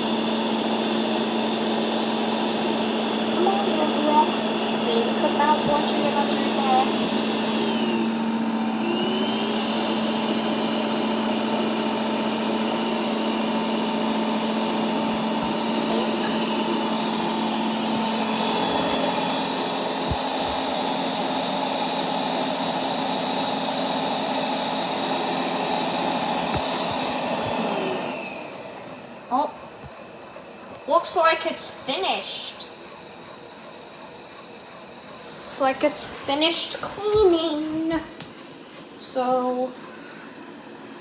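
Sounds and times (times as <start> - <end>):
robot vacuum motor whine: 0.0 - 38.2.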